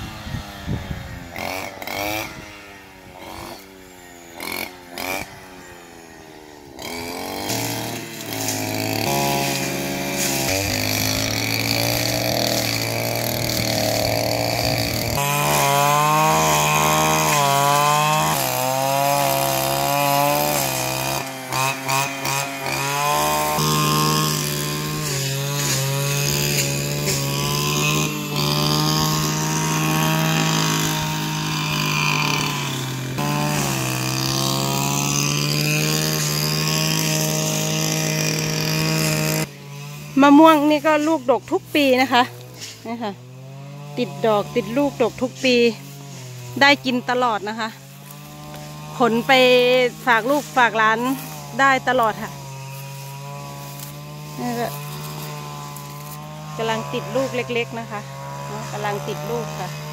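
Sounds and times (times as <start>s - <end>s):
brush cutter engine revving: 0.0s - 59.9s.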